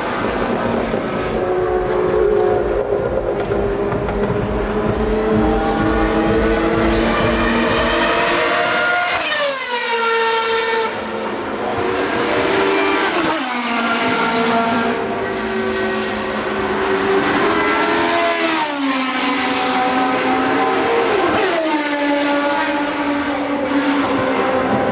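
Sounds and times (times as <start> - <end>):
racing car engine at high revs: 0.0 - 24.9.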